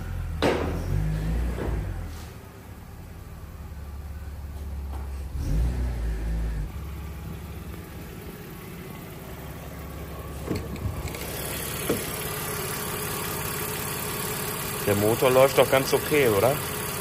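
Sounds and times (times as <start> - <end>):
car engine running and revving: 0.0 - 2.4, 3.6 - 17.0.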